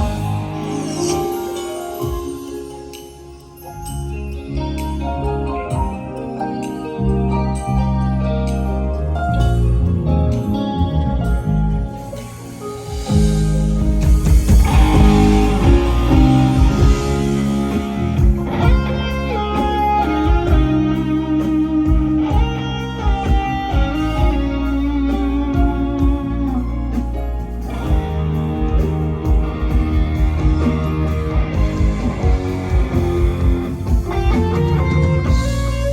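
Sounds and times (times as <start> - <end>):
bass line: 0.0 - 35.9
electric guitar melody: 0.0 - 35.9.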